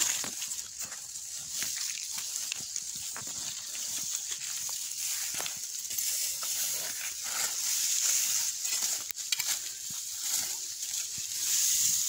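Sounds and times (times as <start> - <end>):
leaves rustling and crackling: 0.0 - 12.0
steady high hiss: 0.0 - 12.0.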